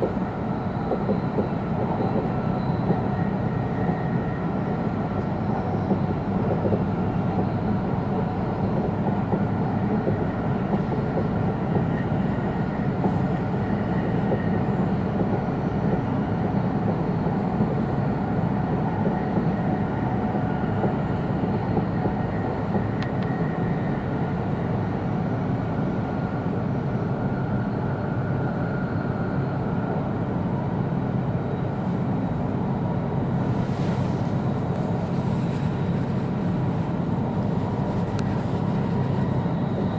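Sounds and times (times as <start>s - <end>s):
train wheels rumbling: 0.0s - 26.0s, 31.4s - 39.9s
faint steady whine: 0.0s - 39.9s.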